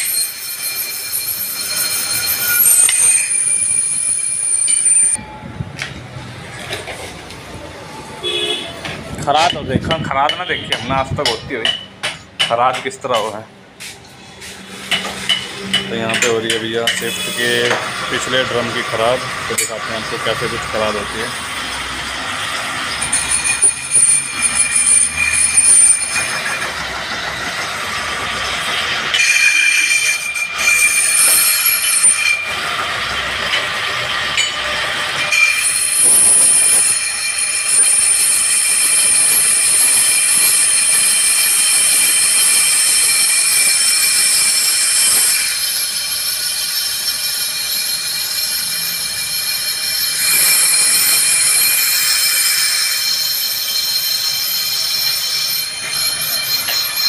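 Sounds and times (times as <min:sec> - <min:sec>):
lathe cutting metal squealing: 0:00.0 - 0:05.3, 0:14.5 - 0:57.0.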